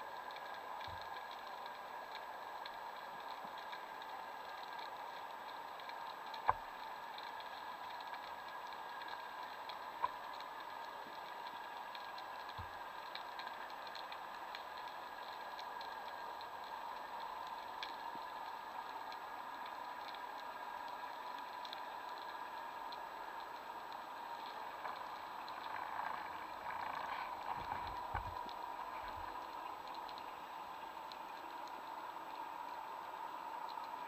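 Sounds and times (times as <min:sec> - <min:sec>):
crackle of tiny clicks: 0:00.0 - 0:34.0
underwater hiss and hum: 0:00.0 - 0:34.0.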